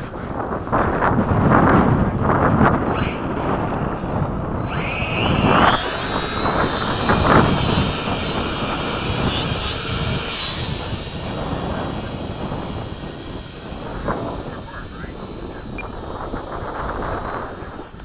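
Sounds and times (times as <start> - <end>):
wind buffeting microphone: 0.0 - 18.0
model plane motors whining: 0.4 - 18.0.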